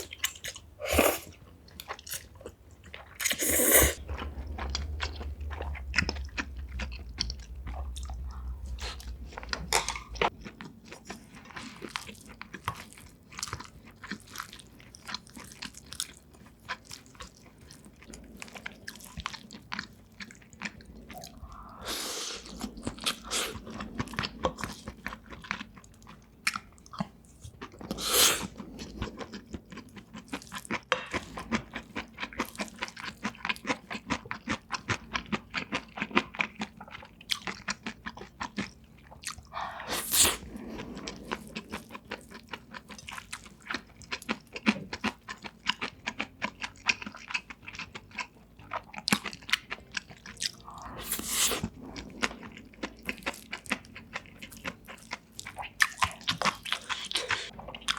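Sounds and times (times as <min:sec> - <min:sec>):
close chewing with wet mouth clicks: 0:00.0 - 0:21.8, 0:22.4 - 0:39.8, 0:40.4 - 0:57.9.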